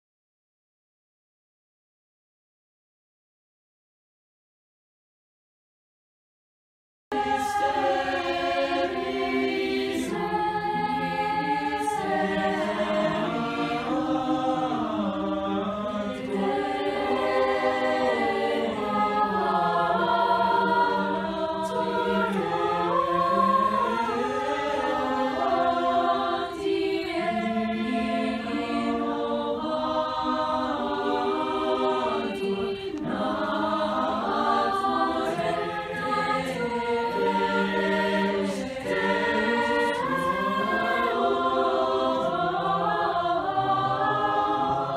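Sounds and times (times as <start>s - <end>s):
mixed choir singing in parts: 7.1s - 44.9s.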